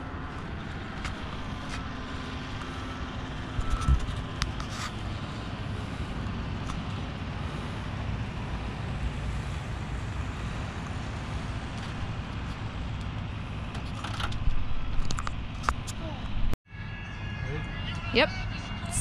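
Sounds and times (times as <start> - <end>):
low outdoor rumble: 0.0 - 16.6.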